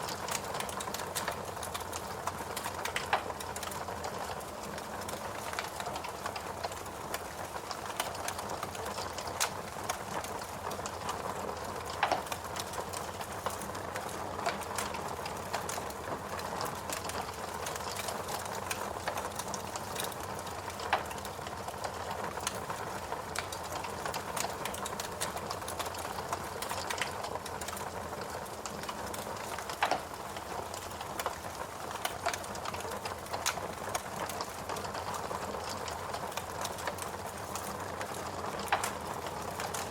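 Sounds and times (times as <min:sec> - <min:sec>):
fireplace crackling and popping: 0:00.0 - 0:39.9.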